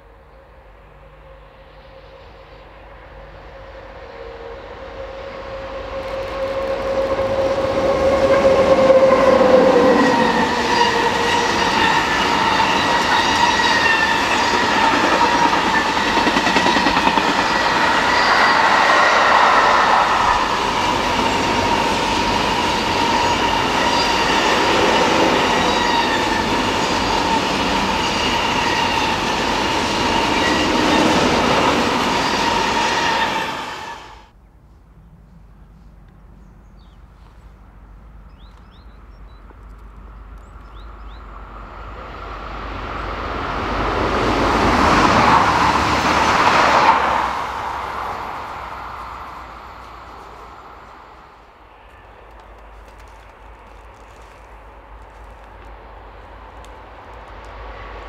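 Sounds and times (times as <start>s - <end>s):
train passing: 0.0s - 58.0s.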